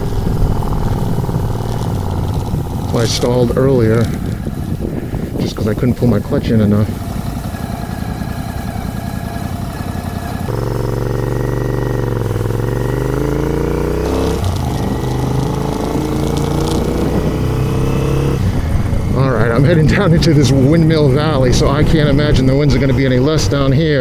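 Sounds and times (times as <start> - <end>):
motorcycle engine idling and accelerating: 0.0 - 24.0.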